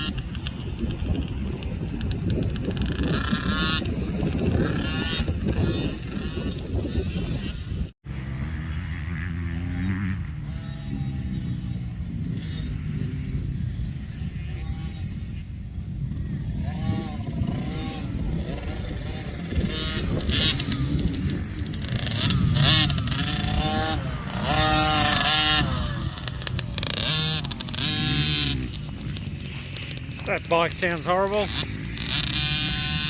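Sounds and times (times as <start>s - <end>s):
two-stroke dirt bike revving: 0.0s - 33.0s.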